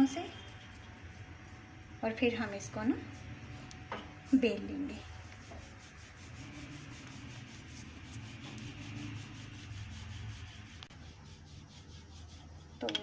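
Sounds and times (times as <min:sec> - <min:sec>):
rolling pin rolling dough: 0:00.0 - 0:13.0.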